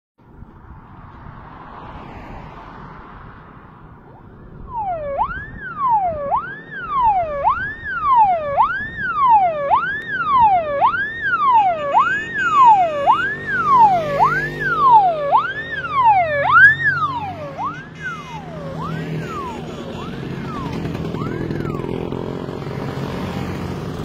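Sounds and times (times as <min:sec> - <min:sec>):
faint traffic noise: 0:00.3 - 0:24.0
electronic siren wailing: 0:04.2 - 0:23.6.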